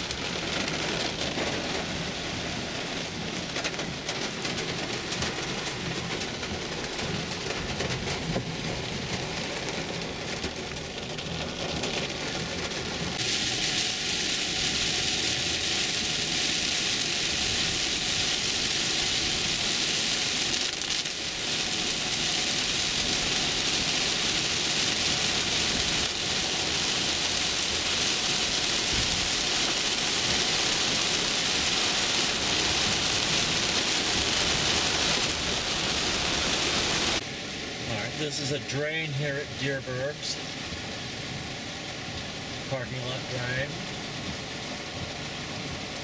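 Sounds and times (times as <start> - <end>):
heavy rain on car roof: 0.0 - 46.0.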